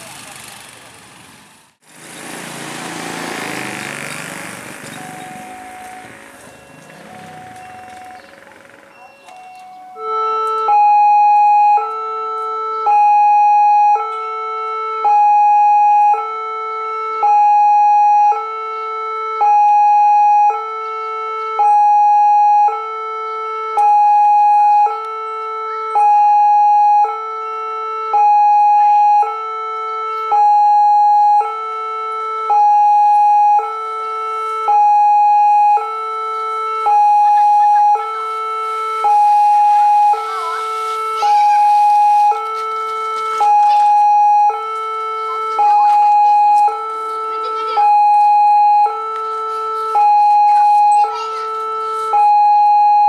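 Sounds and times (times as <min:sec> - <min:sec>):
level crossing two-tone alarm: 0:04.9 - 0:53.0.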